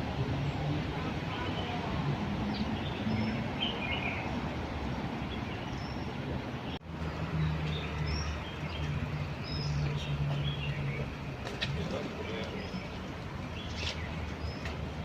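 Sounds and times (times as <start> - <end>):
outdoor background noise: 0.0 - 15.0
small birds chirping: 0.4 - 15.0.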